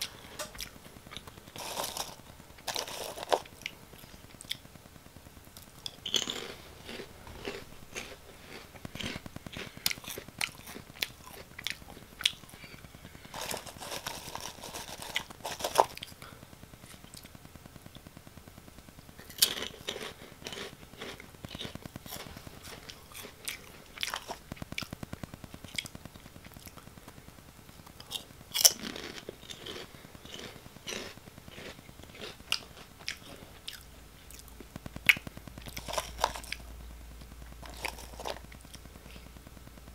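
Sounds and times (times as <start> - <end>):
chewing crunchy snacks: 0.0 - 4.7, 5.6 - 17.3, 19.2 - 27.2, 27.8 - 39.4.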